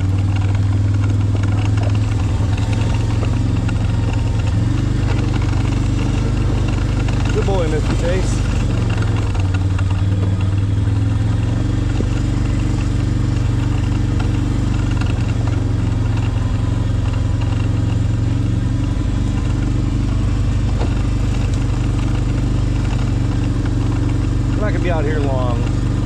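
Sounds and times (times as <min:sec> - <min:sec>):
motor engine running: 0:00.0 - 0:26.0.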